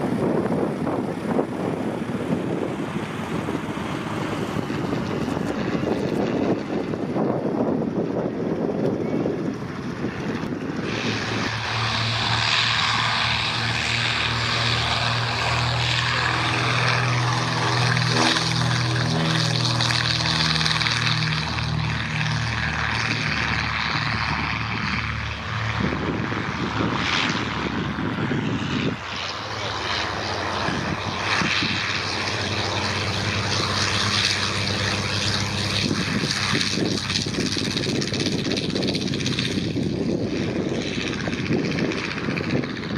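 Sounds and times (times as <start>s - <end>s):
propeller aircraft engines: 0.0s - 42.9s.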